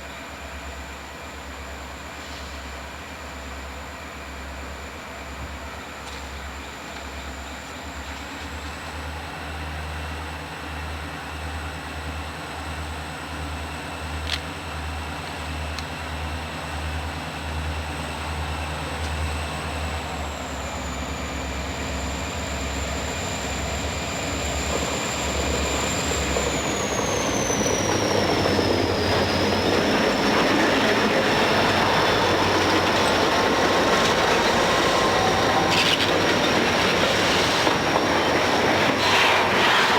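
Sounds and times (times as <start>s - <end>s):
diesel locomotive rumble: 0.0s - 39.9s
train wheels on rail: 4.7s - 39.9s.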